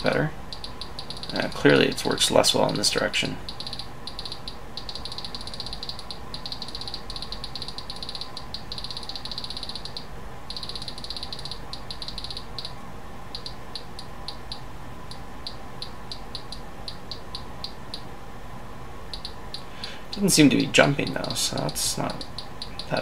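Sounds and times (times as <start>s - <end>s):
rotary encoder ticking: 0.0s - 18.1s, 19.1s - 20.4s, 21.6s - 23.0s.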